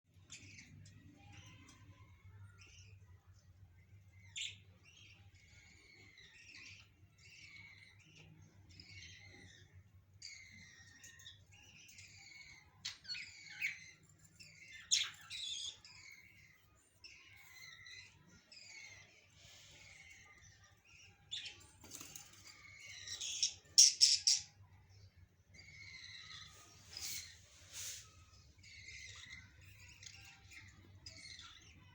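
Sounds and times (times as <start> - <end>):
budgerigars chirping and chattering: 0.1 - 31.9.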